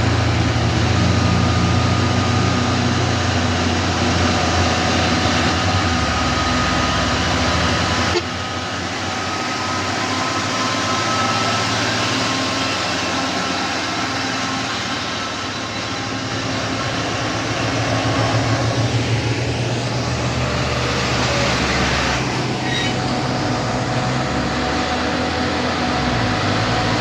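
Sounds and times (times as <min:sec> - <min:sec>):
heavy truck engine running: 0:00.0 - 0:27.0
road noise: 0:00.0 - 0:27.0.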